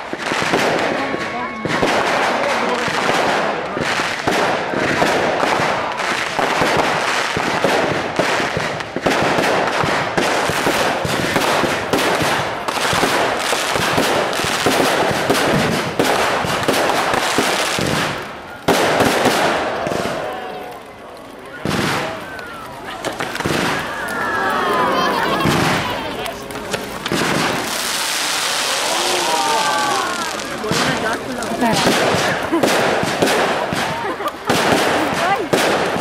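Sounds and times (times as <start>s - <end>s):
fireworks crackling bangs: 0.0s - 36.0s.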